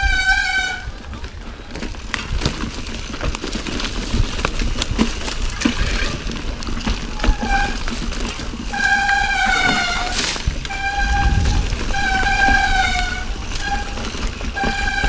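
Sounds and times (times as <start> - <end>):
bike knocks and rattles: 0.0 - 15.0
tyre and wind noise: 0.0 - 15.0.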